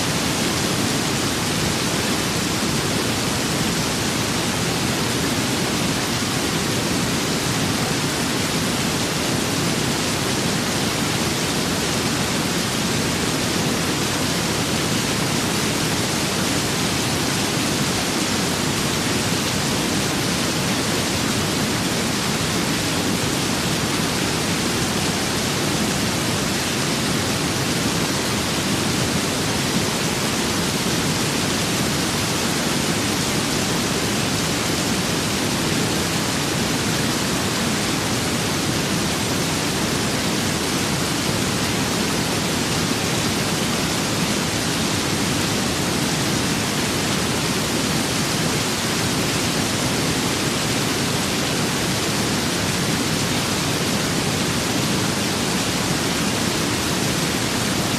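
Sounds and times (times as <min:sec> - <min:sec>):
rain and wind hiss: 0:00.0 - 0:57.9.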